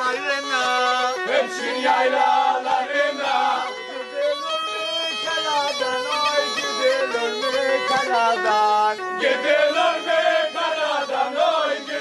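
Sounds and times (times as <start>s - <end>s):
bagpipe playing ornamented melody: 0.0s - 12.0s
men chanting: 0.1s - 12.0s.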